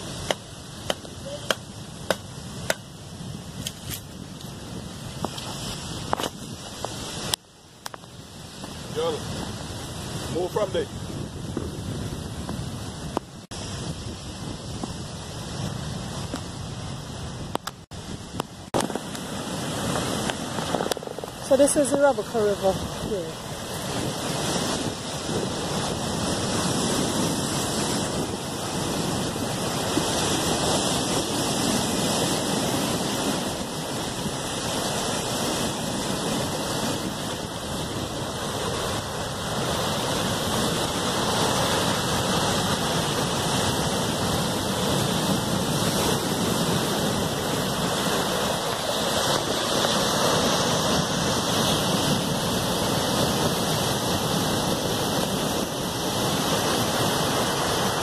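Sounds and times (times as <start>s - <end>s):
river running over stones: 0.0s - 10.8s, 17.7s - 58.0s
surf breaking on stony beach: 0.0s - 58.0s.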